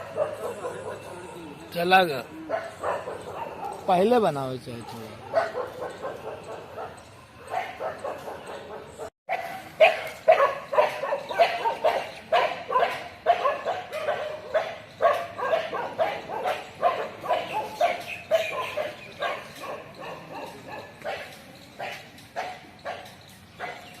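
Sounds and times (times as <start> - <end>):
dogs barking: 0.0 - 24.0.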